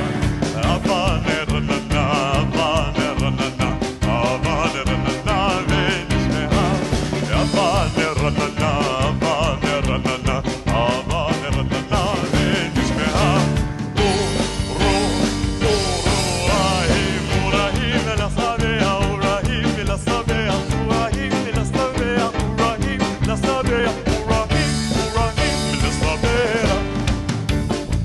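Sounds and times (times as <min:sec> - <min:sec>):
live band playing dance music: 0:00.0 - 0:28.0.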